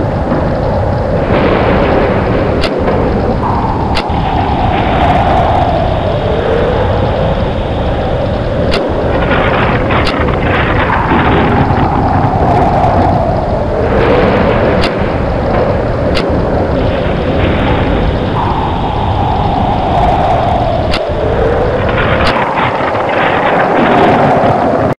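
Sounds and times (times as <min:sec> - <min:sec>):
sharp cracks: 0:00.0 - 0:24.9
wind howling: 0:00.0 - 0:24.9.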